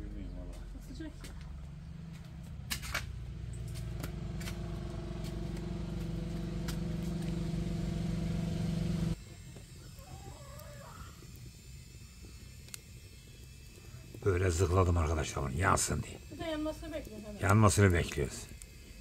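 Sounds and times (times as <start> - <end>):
motor running: 1.4 - 19.0.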